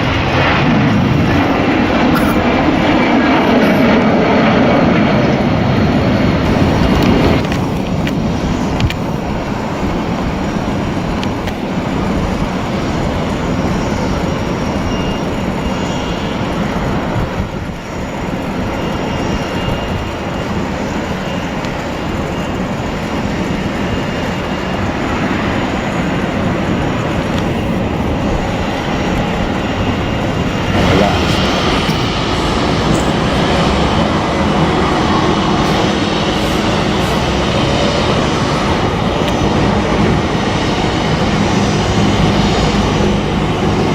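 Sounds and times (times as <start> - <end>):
faint high whine: 0.0 - 43.9
jet engines rumbling: 0.0 - 43.9.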